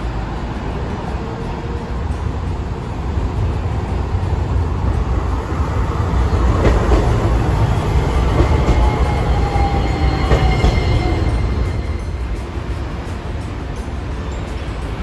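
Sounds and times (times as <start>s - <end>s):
tram rolling in: 0.0s - 15.0s.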